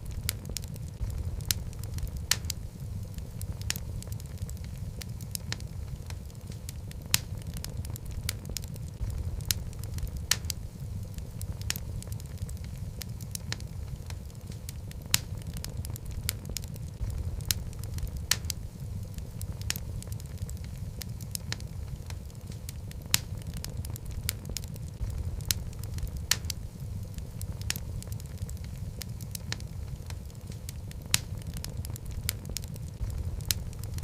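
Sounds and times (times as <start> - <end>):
logs crackling in fireplace: 0.0 - 34.0.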